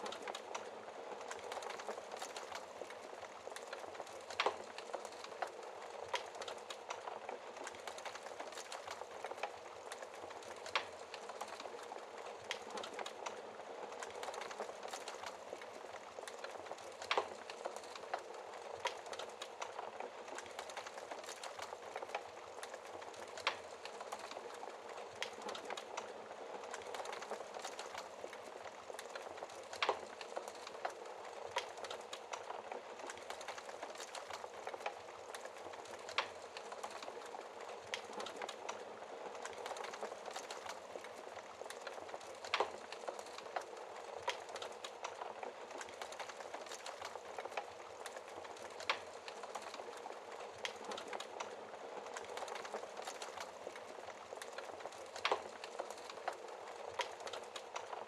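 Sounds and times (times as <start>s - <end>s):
fire popping: 0.0s - 58.0s
wood fire crackling: 0.0s - 58.0s.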